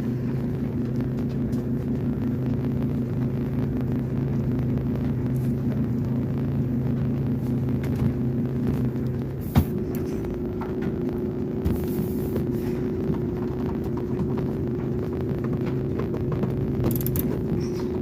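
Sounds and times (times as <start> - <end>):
clothes dryer drone: 0.0 - 18.0.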